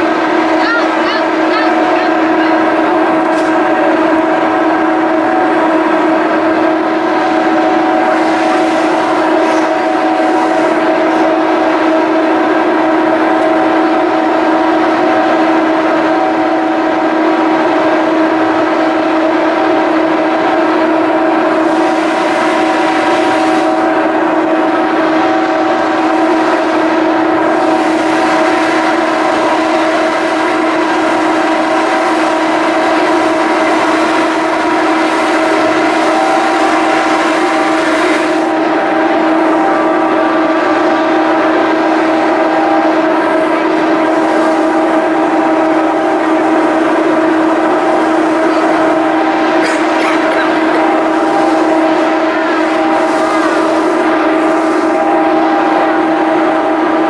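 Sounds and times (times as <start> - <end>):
ship engines droning hum: 0.0 - 57.0.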